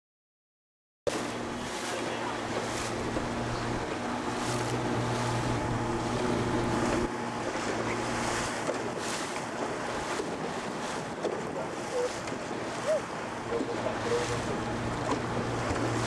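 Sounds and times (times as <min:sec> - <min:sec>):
boat engine humming: 0:01.1 - 0:16.0
water slapping against boat: 0:01.1 - 0:16.0
wind buffeting microphone: 0:01.2 - 0:16.0.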